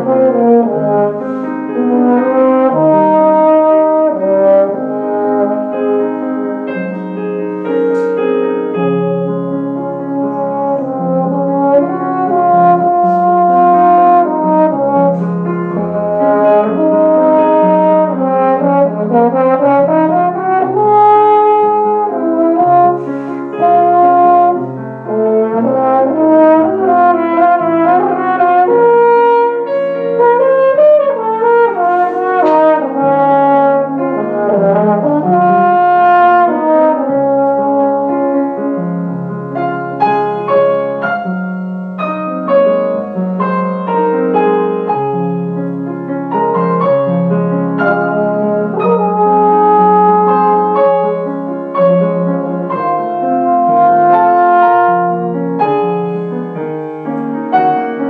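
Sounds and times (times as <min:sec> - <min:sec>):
french horn melody: 0:00.0 - 0:58.0
piano accompaniment: 0:00.0 - 0:58.0.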